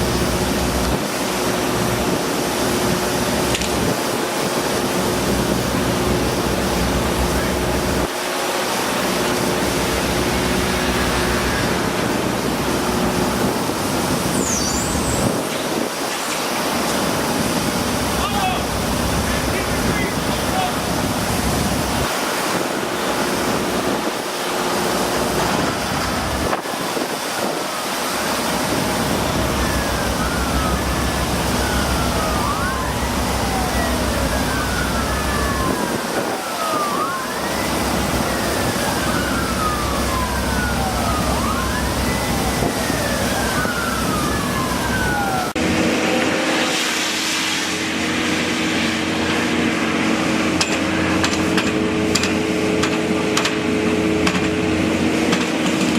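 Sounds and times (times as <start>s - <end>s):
emergency siren wailing: 0.0s - 55.9s
rushing background noise: 0.0s - 55.9s.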